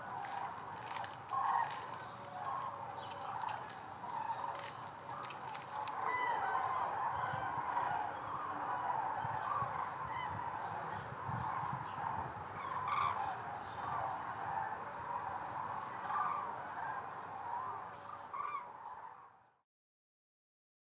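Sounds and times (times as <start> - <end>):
flock of cranes calling: 0.0 - 19.5.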